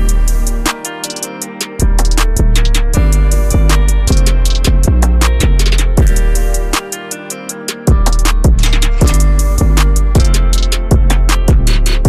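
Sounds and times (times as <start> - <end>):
music with heavy bass and drums: 0.0 - 12.0.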